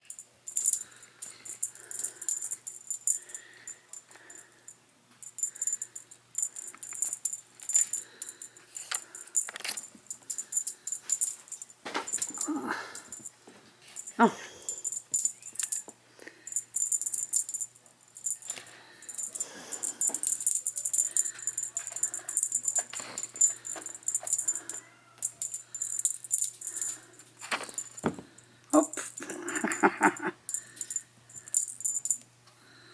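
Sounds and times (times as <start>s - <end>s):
cat toy jingling and rattling: 0.0s - 32.2s.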